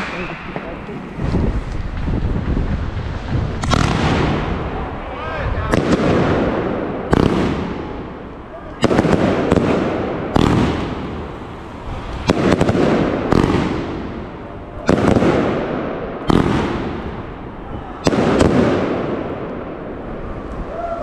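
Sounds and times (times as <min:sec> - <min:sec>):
firework bangs: 0:00.0 - 0:21.0.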